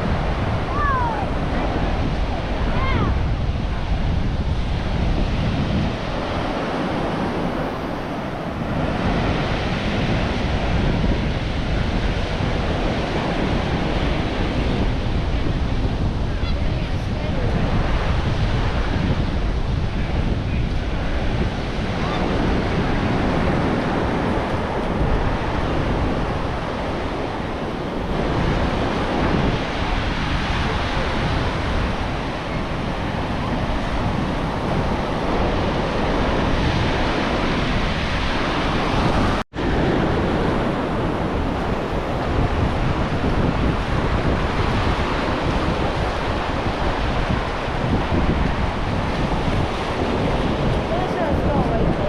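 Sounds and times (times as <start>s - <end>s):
ocean surf washing in: 0.0s - 52.0s
wind buffeting microphone: 0.0s - 52.0s.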